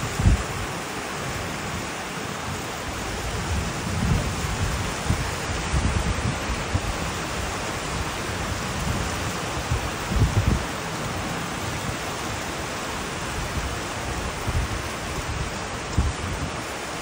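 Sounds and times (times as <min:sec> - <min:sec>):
heavy rain on foliage: 0:00.0 - 0:17.0.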